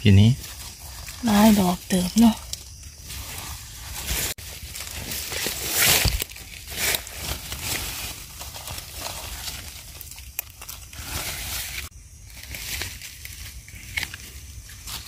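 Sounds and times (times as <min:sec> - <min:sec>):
dry leaves rustling and crunching: 0:00.3 - 0:15.0.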